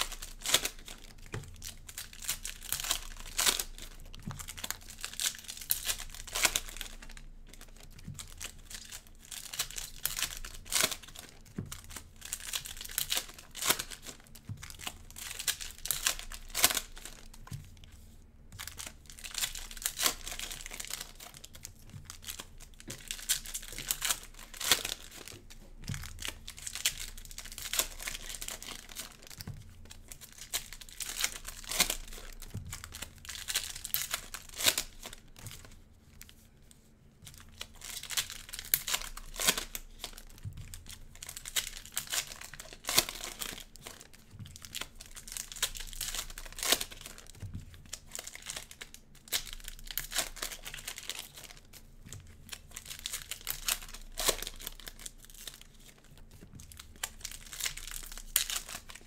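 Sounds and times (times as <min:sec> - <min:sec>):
cellophane crinkling and tearing: 0:00.0 - 0:59.0.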